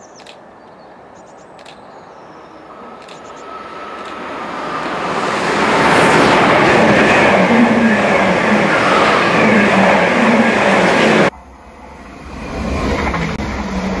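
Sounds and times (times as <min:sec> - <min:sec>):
passenger train passing: 0:00.0 - 0:14.0.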